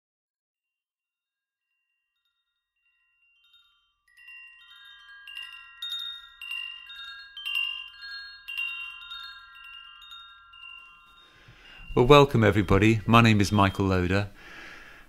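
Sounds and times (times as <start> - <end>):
wind chimes ringing: 1.5 - 14.3.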